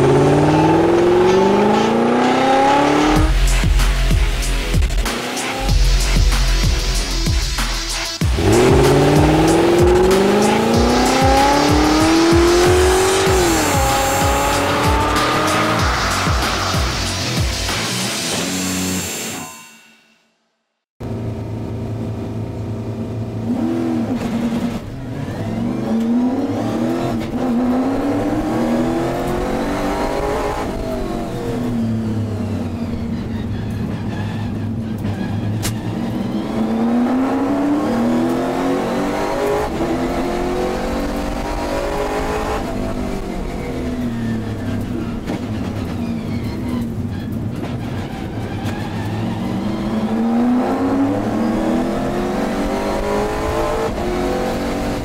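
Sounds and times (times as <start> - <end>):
other race cars running: 0.0 - 5.9, 8.2 - 19.1, 21.0 - 55.0
race car engine revving: 0.0 - 18.5, 23.4 - 33.0, 35.2 - 45.9, 47.6 - 55.0.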